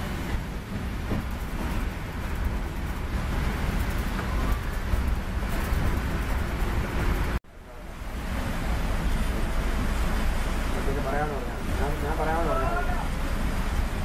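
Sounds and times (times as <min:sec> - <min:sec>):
bus engine and tyres rumbling: 0:00.0 - 0:14.0.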